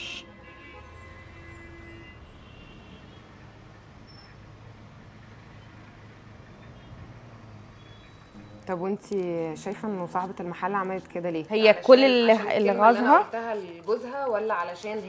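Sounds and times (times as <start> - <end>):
distant street traffic: 0.0 - 15.0.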